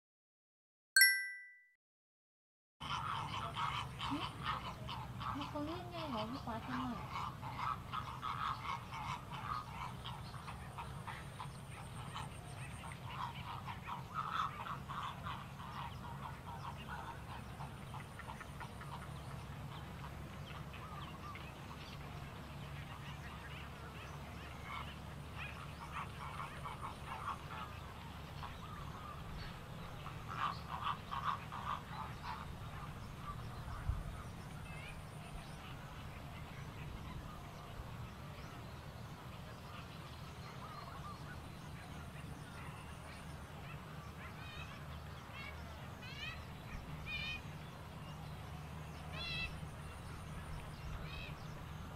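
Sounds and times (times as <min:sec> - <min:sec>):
wetland animal calls: 0:02.8 - 0:33.9, 0:40.5 - 0:51.9
steady low hum: 0:02.8 - 0:51.9.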